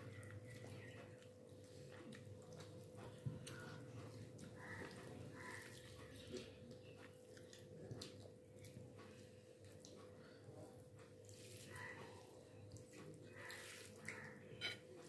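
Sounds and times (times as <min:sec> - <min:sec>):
wet squishes of food mixed by hand: 0:00.0 - 0:14.7.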